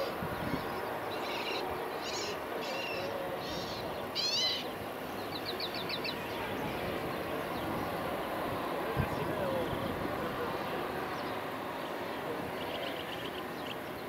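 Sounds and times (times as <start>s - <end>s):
birds chirping: 0.0s - 14.0s
steady background hiss: 0.0s - 14.0s.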